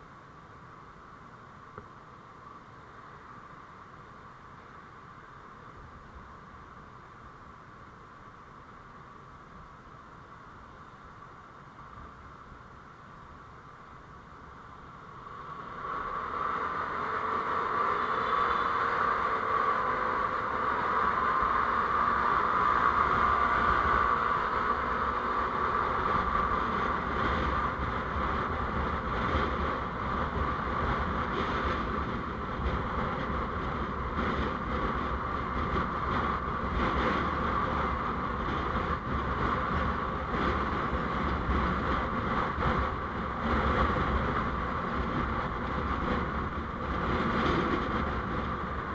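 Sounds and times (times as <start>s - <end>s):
vehicle road and engine noise: 0.0s - 48.9s.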